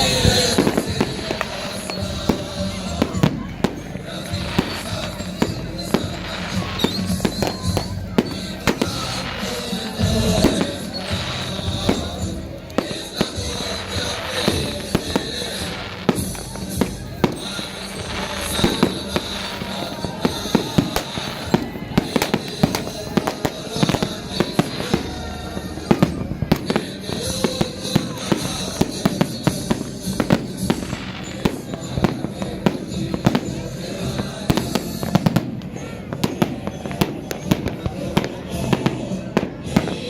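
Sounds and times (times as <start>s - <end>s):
fireworks bangs and crackles: 0.0s - 40.0s
music: 0.0s - 40.0s
voices: 0.0s - 40.0s.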